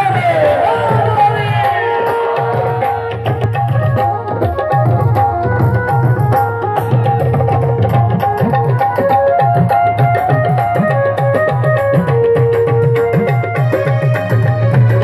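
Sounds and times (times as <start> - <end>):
tabla rhythm: 0.0 - 15.0.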